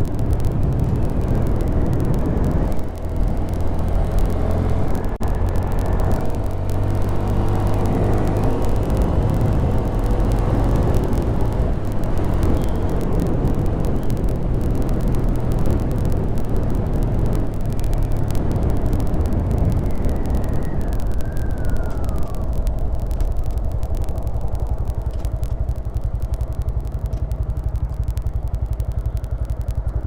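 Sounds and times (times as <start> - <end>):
motorcycle engine running: 0.0 - 30.0
wind rushing over microphone: 0.0 - 30.0.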